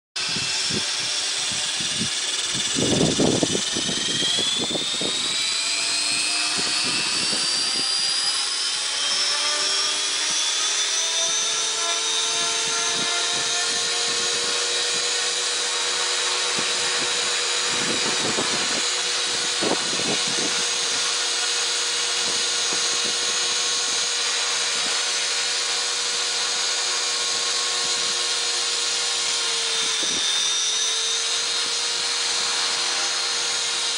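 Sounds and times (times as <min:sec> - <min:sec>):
model helicopter rotor whining: 0:00.2 - 0:33.9.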